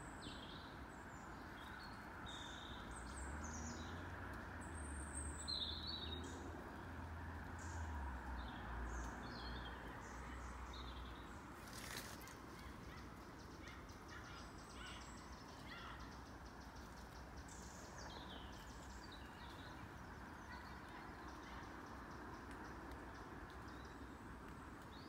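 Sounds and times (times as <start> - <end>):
small birds chirping: 0.0 - 25.0
steady outdoor hiss: 0.0 - 25.0.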